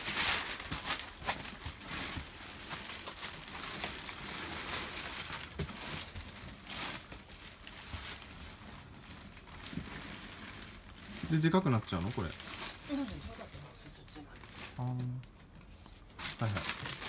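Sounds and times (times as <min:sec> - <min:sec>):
plastic bag crinkling: 0:00.0 - 0:15.4, 0:16.2 - 0:17.0.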